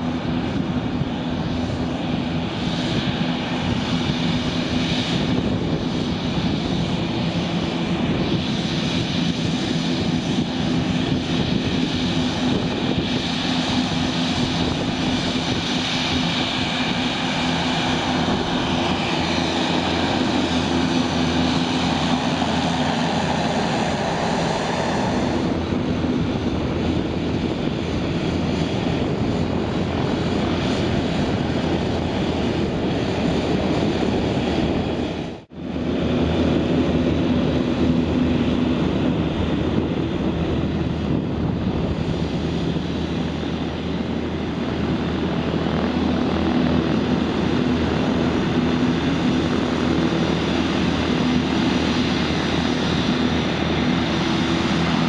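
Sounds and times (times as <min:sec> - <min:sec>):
turboprop engines running: 0:00.0 - 0:55.0.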